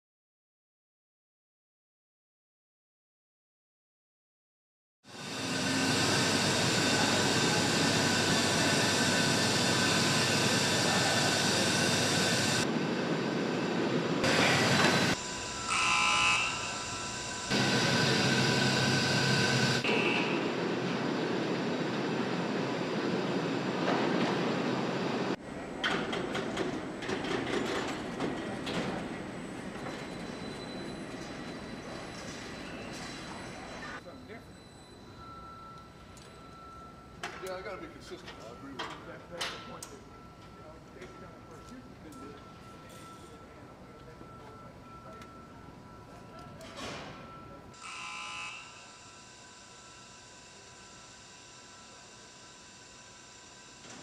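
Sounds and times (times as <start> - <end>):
machinery and ventilation hiss: 5.1 - 54.0.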